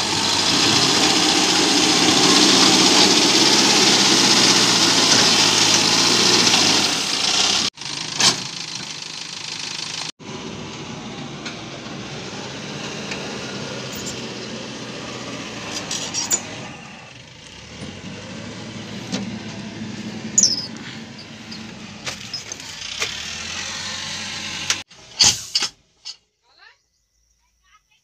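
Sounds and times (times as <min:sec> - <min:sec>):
heavy vehicle engine running: 0:00.0 - 0:24.9.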